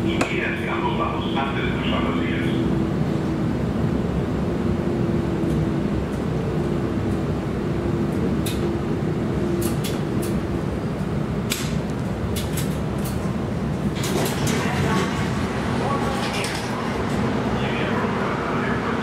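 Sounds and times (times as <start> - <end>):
light rail car rumbling: 0.0 - 19.0.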